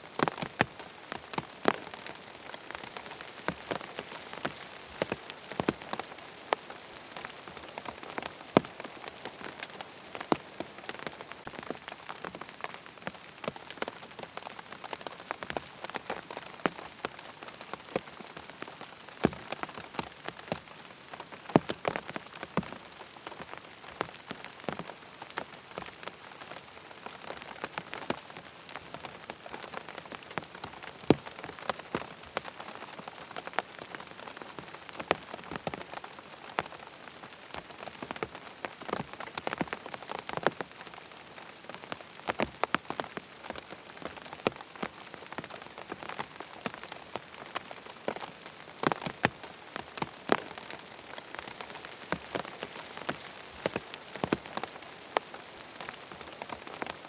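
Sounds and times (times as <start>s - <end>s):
rain falling with drop impacts: 0.0s - 57.0s.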